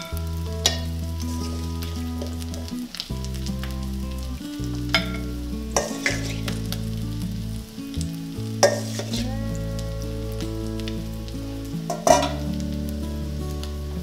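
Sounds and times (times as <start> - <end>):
food sizzling in a frying pan: 0.0 - 14.0
soft background music: 0.0 - 14.0.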